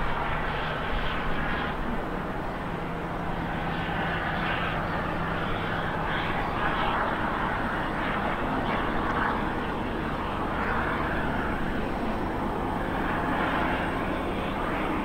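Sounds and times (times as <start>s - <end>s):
locomotive engines droning: 0.0s - 15.0s.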